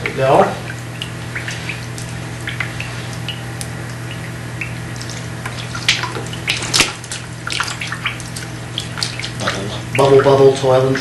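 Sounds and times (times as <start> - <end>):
water splashing into a bucket: 0.0 - 10.8
steady low hum: 0.0 - 11.0.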